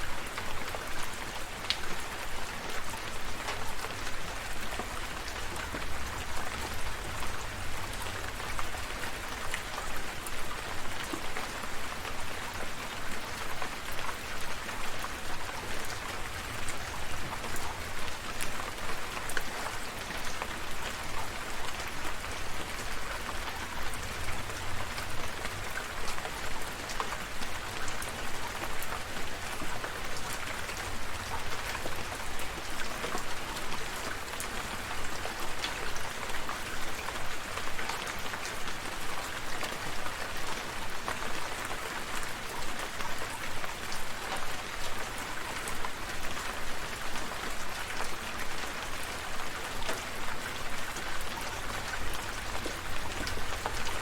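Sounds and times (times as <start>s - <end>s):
raindrops pattering: 0.0s - 54.0s
steady rain falling: 0.0s - 54.0s.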